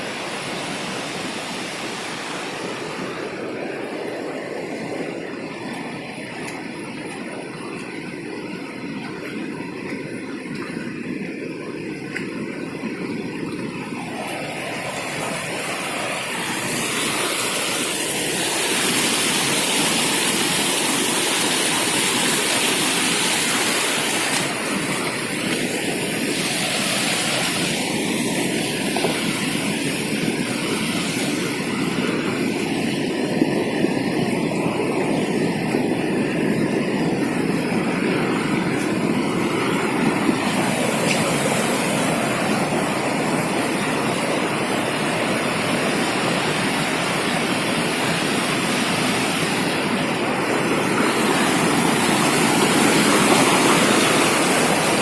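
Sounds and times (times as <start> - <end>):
fast-flowing water rushing: 0.0 - 55.0.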